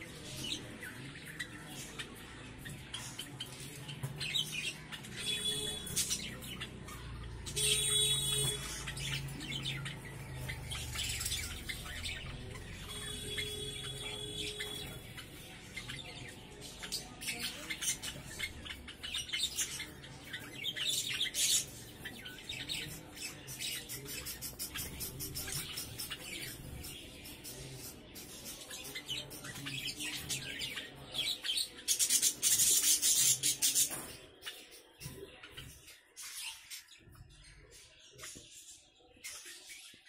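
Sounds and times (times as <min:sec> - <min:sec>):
sparrows chirping: 0:00.0 - 0:40.0.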